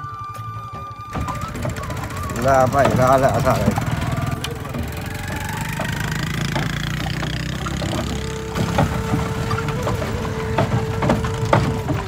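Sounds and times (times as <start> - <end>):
cart rattling: 0.0 - 12.0
horse hooves knocking: 0.0 - 12.0
motorbike engine humming: 0.0 - 12.0.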